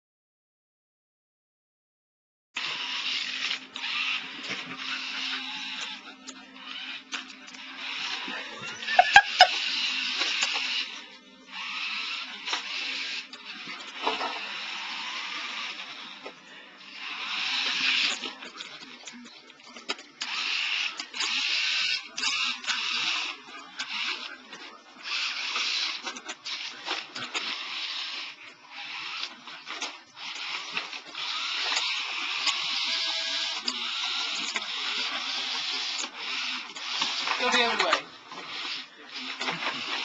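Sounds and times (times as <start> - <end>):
toy car motor whirring: 2.6 - 40.0.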